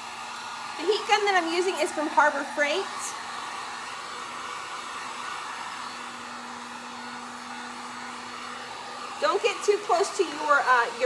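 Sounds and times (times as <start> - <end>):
heat gun fan blowing air: 0.0 - 11.0.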